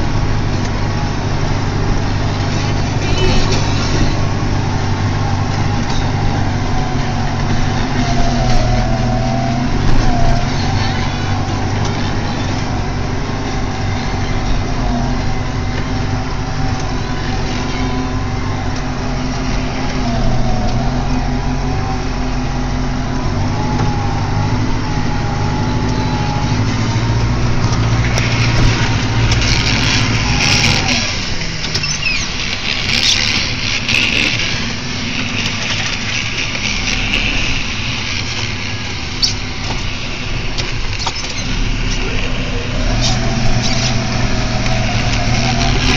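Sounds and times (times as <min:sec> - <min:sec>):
tractor diesel engine running: 0:00.0 - 0:45.9
wavering whine: 0:00.0 - 0:45.9.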